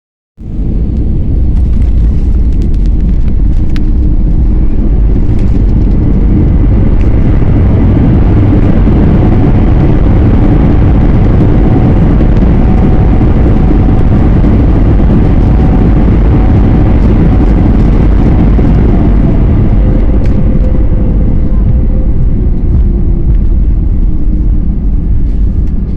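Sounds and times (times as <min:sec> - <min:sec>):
airplane landing roar: 0:00.4 - 0:25.9
faint steady tones: 0:00.4 - 0:25.9.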